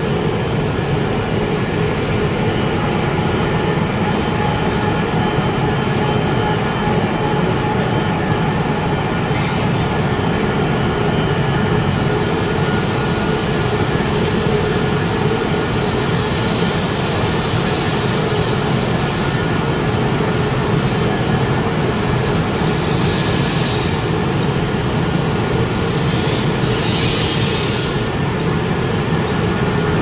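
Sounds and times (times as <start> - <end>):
industrial machinery running: 0.0 - 30.0.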